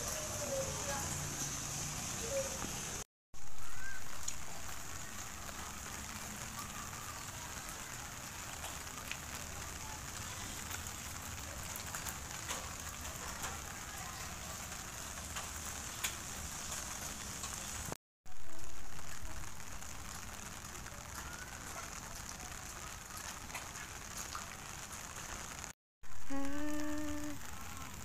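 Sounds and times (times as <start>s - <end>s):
light rain hiss: 0.0s - 28.0s.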